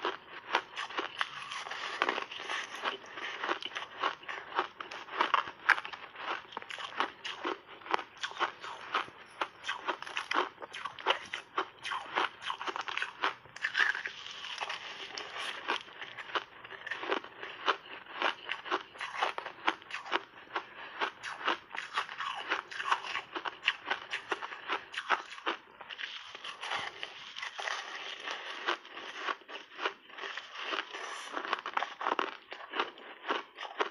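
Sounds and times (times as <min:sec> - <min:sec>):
crunching ice being chewed: 0:00.0 - 0:33.9.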